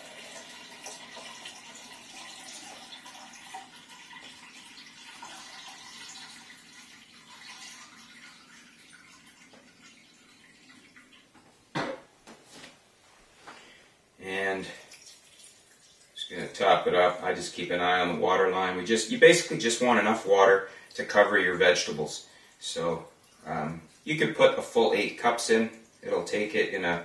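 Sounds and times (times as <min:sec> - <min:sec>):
water running into a glass jug: 0:00.0 - 0:11.4, 0:14.4 - 0:27.0.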